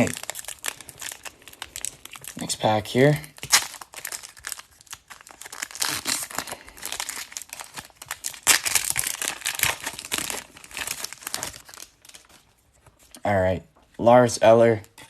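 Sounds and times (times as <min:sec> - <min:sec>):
card pack wrapper crinkling: 0:00.0 - 0:13.2.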